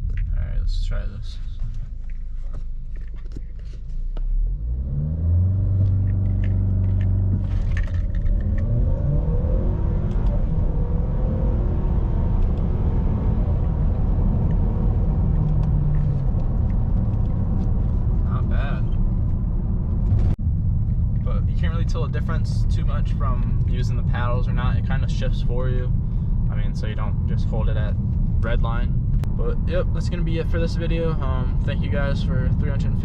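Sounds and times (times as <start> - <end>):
car engine accelerating: 1.6 - 33.0.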